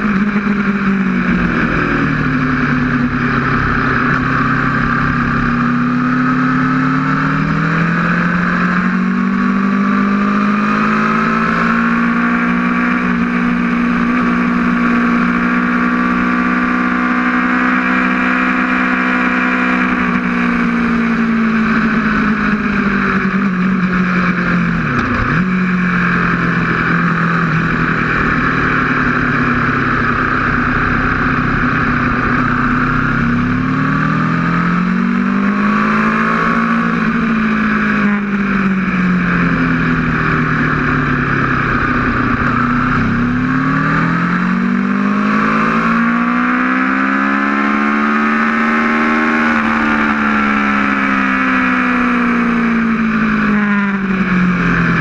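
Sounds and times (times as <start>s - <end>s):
motorcycle engine at speed: 0.0s - 55.0s.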